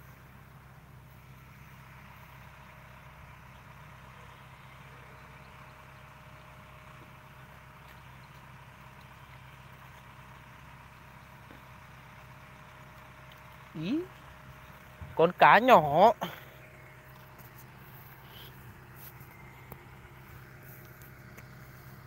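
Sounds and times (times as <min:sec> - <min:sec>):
faint diesel engine humming: 0:00.0 - 0:22.0.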